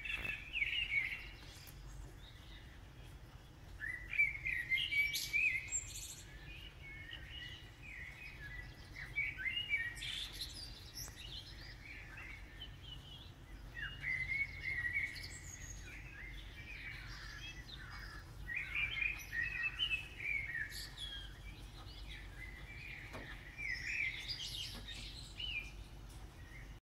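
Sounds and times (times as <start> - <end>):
blackbirds singing: 0.0 - 26.8
low steady rumble: 0.0 - 26.8.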